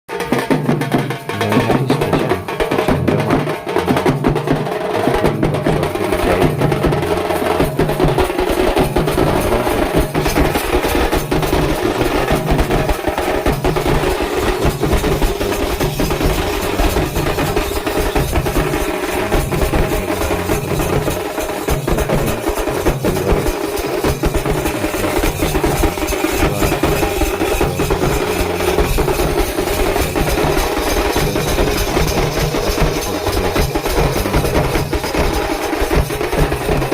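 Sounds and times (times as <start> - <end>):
drums playing fast: 0.1 - 36.9.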